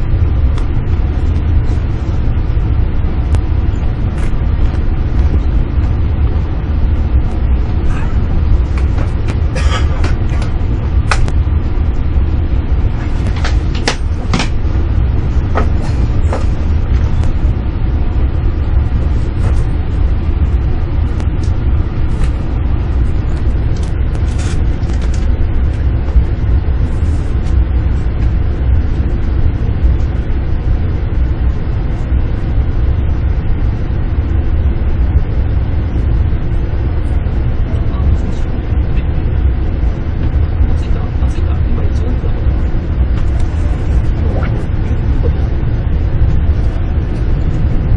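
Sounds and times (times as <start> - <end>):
train running gear rumble: 0.0 - 47.9.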